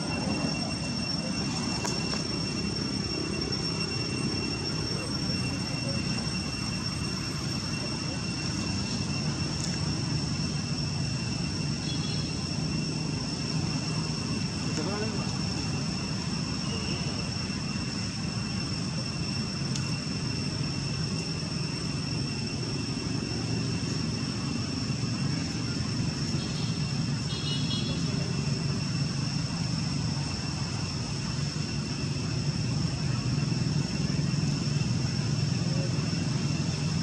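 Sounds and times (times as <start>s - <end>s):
high whining tones: 0.0s - 37.0s.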